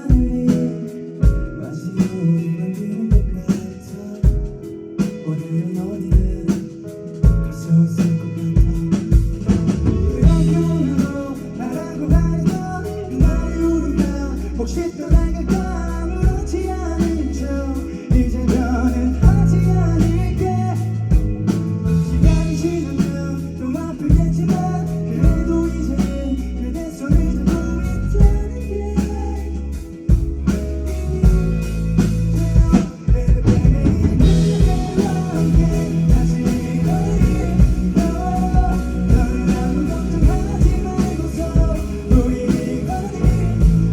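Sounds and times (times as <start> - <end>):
bass guitar: 0.0 - 43.9
drum kit: 0.0 - 43.9
guitar: 0.0 - 43.9
person singing: 0.0 - 43.9.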